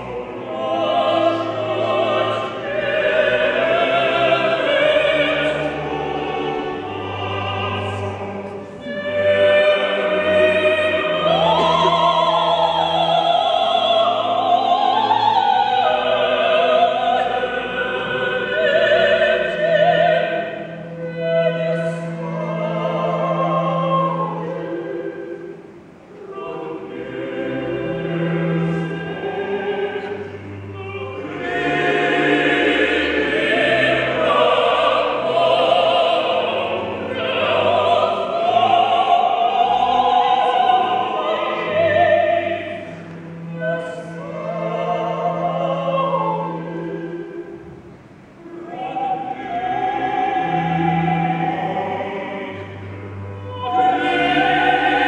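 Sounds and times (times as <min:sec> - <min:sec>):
opera singers singing together: 0:00.0 - 0:55.0
orchestral accompaniment: 0:00.0 - 0:55.0.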